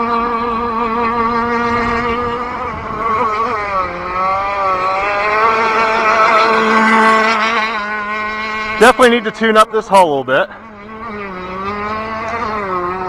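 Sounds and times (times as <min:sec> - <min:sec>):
model boat two-stroke engine: 0:00.0 - 0:13.0.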